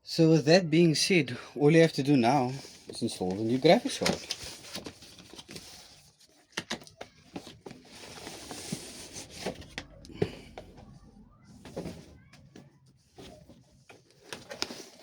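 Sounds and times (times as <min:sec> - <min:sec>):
cardboard and plastic rustling: 0:02.2 - 0:15.0.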